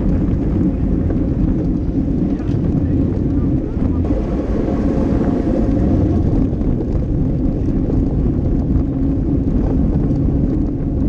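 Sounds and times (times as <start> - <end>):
bike tyre and road noise: 0.0 - 11.0
wind rushing over microphone: 0.0 - 11.0.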